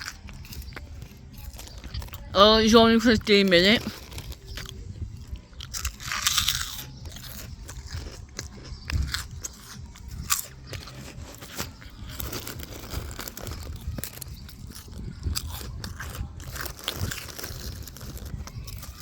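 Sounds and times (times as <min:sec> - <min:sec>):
crunchy food being chewed: 0:00.0 - 0:19.0.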